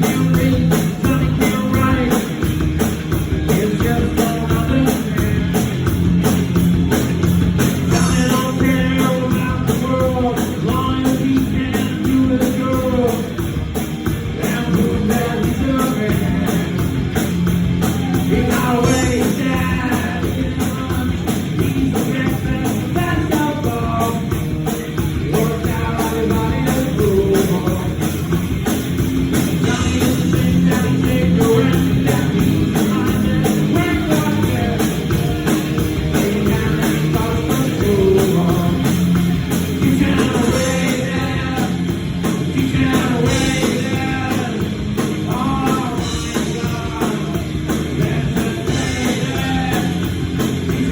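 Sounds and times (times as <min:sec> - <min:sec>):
rock song with vocals: 0:00.0 - 0:50.9.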